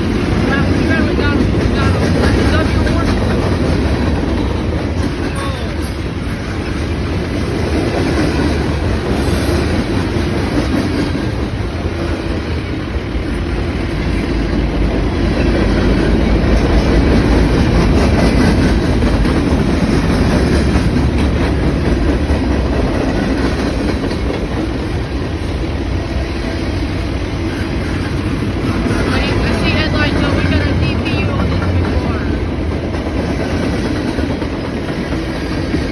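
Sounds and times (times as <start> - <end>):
freight train wheels rumbling: 0.0 - 35.9.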